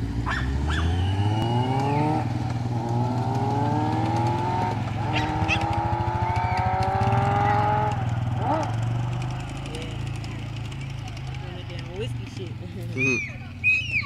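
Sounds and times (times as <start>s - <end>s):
motorcycle accelerating through gears: 0.0s - 14.0s.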